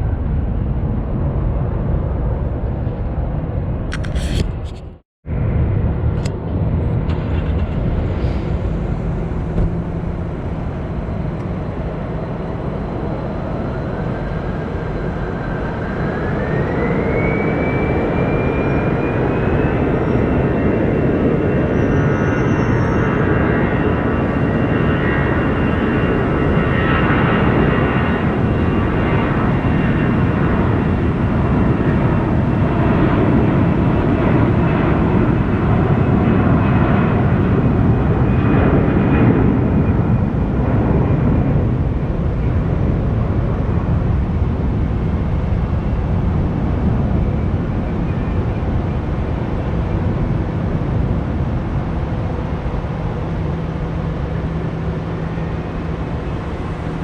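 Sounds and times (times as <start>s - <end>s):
jet engines roaring and whining: 0.0s - 57.0s.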